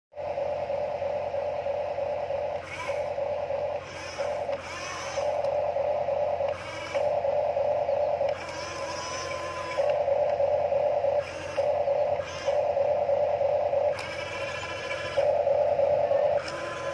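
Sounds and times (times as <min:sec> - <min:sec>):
toy electric gear motors whining: 0:02.5 - 0:05.8, 0:06.4 - 0:16.9.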